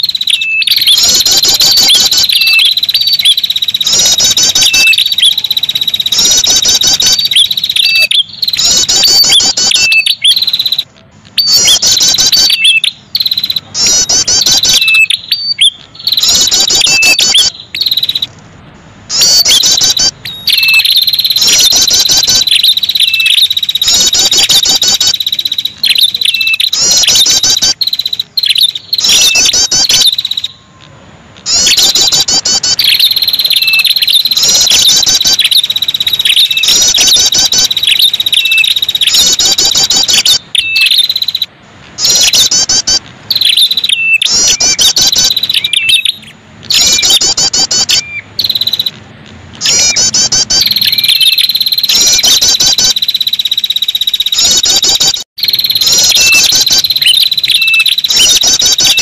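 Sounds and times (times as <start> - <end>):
songbird chattering trills: 0.0 - 18.3, 19.1 - 30.7, 31.4 - 49.0, 49.6 - 59.0
steady high-pitched tone: 0.0 - 59.0.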